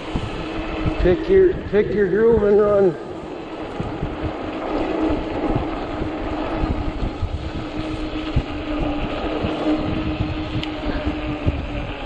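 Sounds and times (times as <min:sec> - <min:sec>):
electric bike motor whine: 0:00.0 - 0:12.0
wind buffeting microphone: 0:00.0 - 0:12.0.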